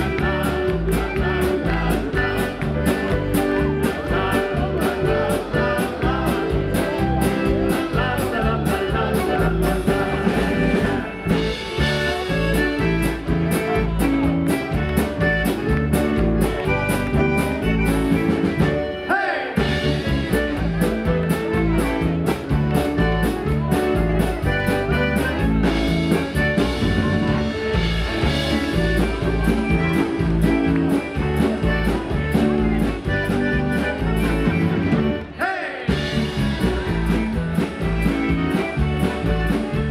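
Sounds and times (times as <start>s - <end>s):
oom-pah bass beat: 0.0s - 18.8s, 19.6s - 35.2s, 35.9s - 39.9s
drum kit: 0.0s - 19.0s, 19.6s - 39.9s
accordion: 0.0s - 39.9s
electric guitar: 0.0s - 39.9s
electric keyboard: 0.0s - 39.9s.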